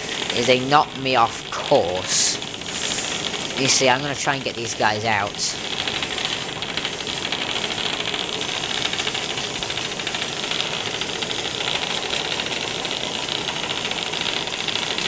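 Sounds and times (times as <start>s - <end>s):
small toy motor running: 0.0s - 15.0s
vibrating toy bugs rattling: 0.0s - 15.0s.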